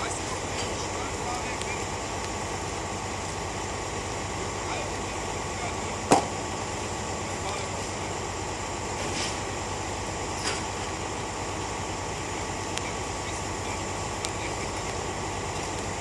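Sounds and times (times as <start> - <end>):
heavy machinery engine idling: 0.0 - 16.0.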